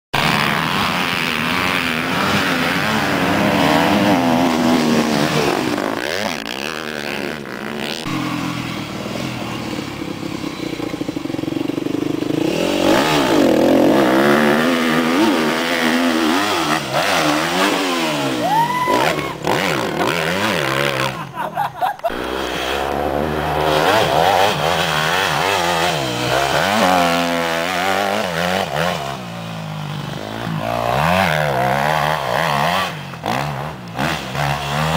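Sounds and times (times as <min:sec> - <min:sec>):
motocross bike engines revving: 0:00.2 - 0:34.9.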